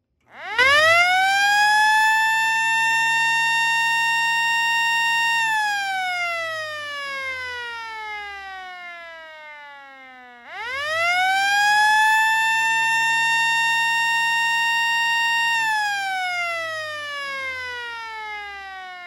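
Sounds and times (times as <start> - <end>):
siren winding up and down: 0.2 - 19.0.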